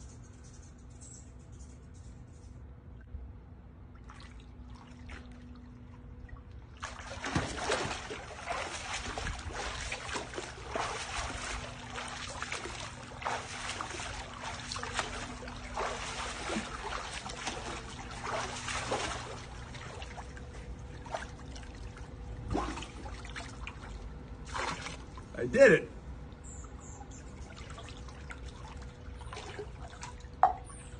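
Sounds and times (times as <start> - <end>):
water splashing from swimming: 4.0 - 25.3, 27.2 - 30.7.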